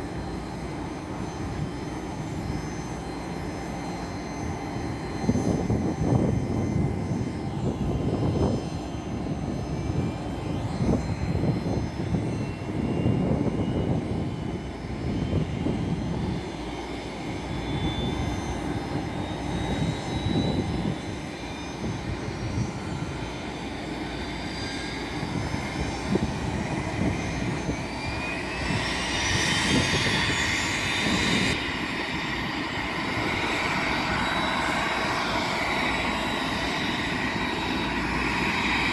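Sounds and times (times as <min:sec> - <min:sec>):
jet engines whining and rumbling: 0:00.0 - 0:38.9.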